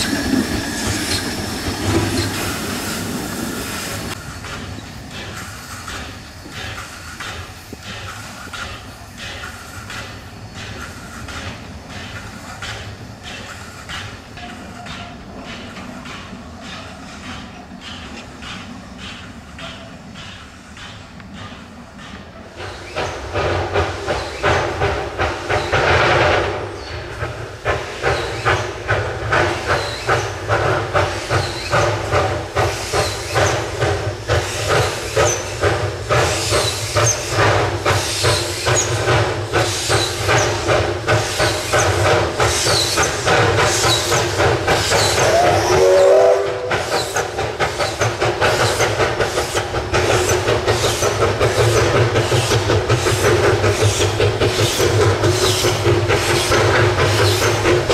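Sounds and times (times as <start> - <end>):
steady hiss of steam: 0.0 - 57.9
steam locomotive exhaust beats: 0.0 - 57.9.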